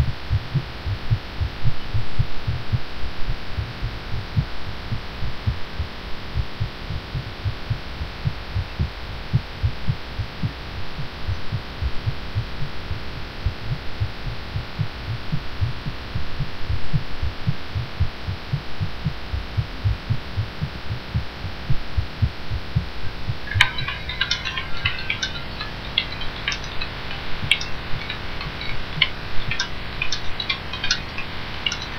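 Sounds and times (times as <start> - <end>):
fast heartbeat thumps: 0.0 - 31.9.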